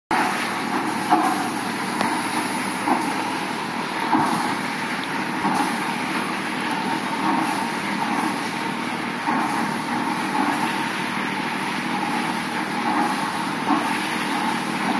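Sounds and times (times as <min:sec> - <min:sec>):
paddle wheels churning water: 0:00.1 - 0:14.9.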